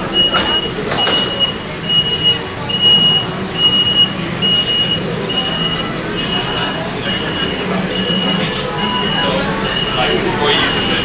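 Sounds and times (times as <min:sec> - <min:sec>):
busy street din: 0:00.0 - 0:11.0.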